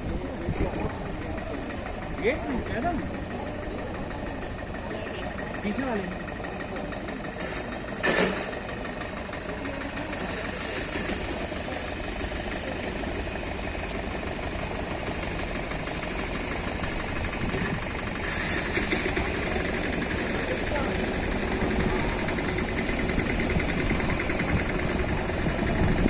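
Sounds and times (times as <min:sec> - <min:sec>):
locomotive engine running: 0:00.0 - 0:26.0.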